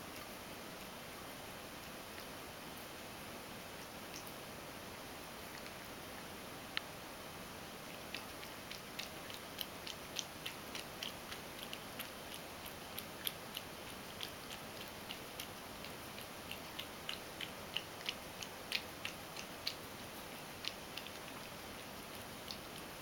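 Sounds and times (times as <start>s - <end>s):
cat lapping milk: 0.8s - 23.0s.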